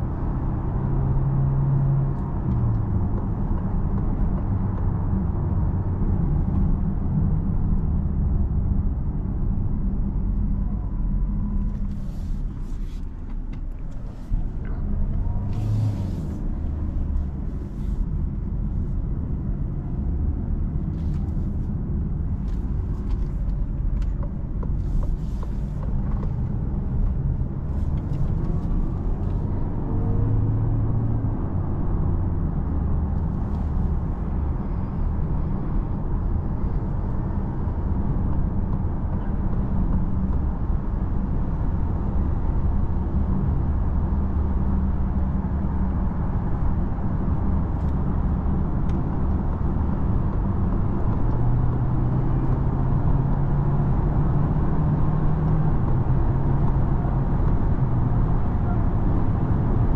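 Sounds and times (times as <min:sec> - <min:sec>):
low rumble of tyres: 0:00.0 - 0:59.9.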